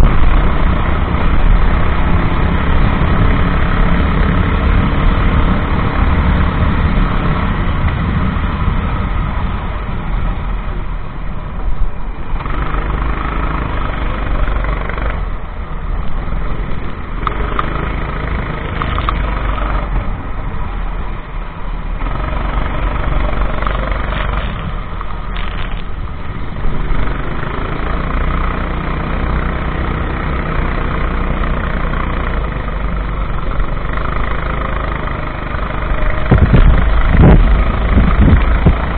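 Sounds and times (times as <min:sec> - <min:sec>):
kart engine running hard: 0:00.0 - 0:09.5, 0:12.3 - 0:20.4, 0:21.9 - 0:25.8, 0:26.5 - 0:38.9.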